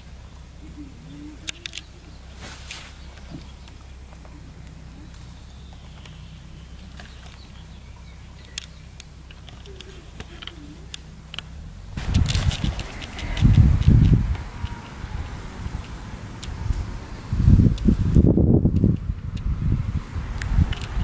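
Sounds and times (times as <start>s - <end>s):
low rumble on microphone: 0.0s - 21.0s
rabbit gnawing twigs: 1.4s - 21.0s.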